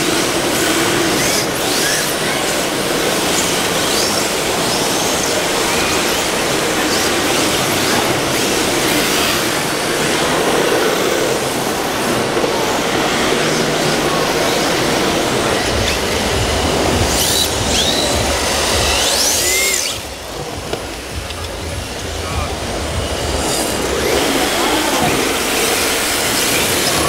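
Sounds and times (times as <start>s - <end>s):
electric motor whines: 0.0s - 27.0s.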